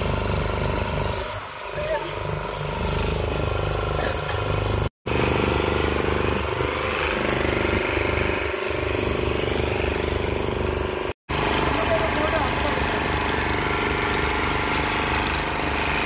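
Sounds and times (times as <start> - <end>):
boat engine throbbing: 0.0 - 16.0.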